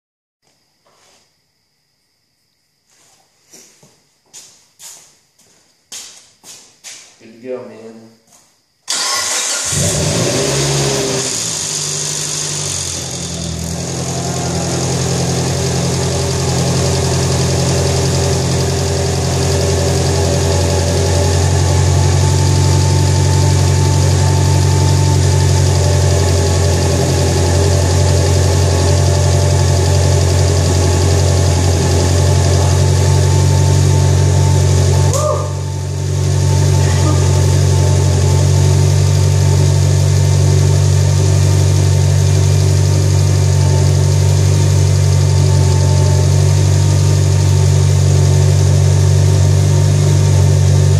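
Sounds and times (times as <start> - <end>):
car engine idling: 8.9 - 50.9.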